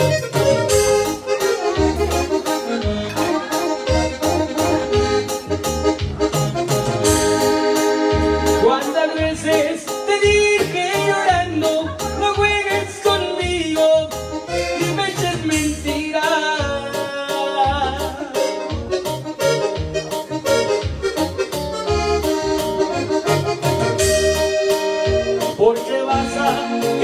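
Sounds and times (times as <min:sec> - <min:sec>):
accordion melody: 0:00.0 - 0:27.0
live band playing: 0:00.0 - 0:27.0
steady bass beat: 0:00.0 - 0:27.0.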